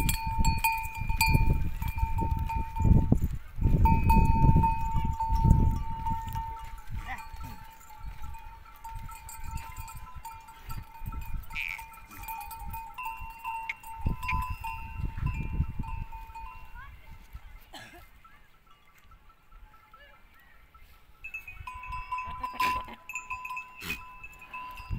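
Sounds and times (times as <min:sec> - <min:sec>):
wind gusts on microphone: 0:00.0 - 0:17.6, 0:21.2 - 0:24.9
goat bells ringing: 0:00.0 - 0:24.9.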